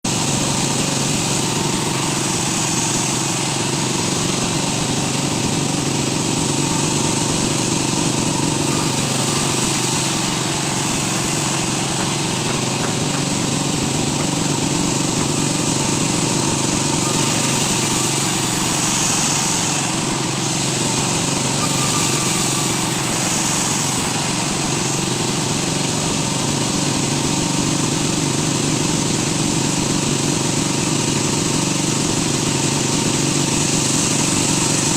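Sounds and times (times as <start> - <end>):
woodworking machine motor droning: 0.1 - 34.9.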